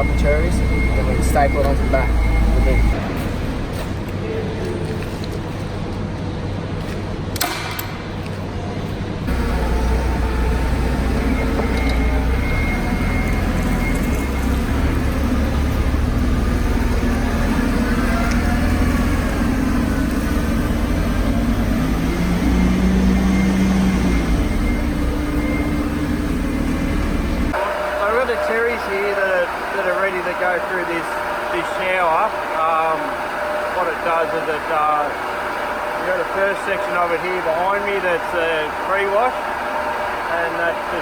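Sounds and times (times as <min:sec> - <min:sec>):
machinery humming: 0:00.0 - 0:41.0.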